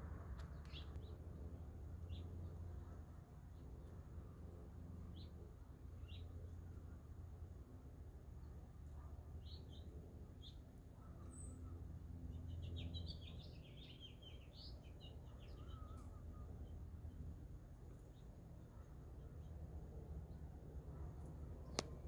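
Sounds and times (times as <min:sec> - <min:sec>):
songbirds chirping: 0:00.0 - 0:22.0
steady low background hum: 0:00.0 - 0:22.0.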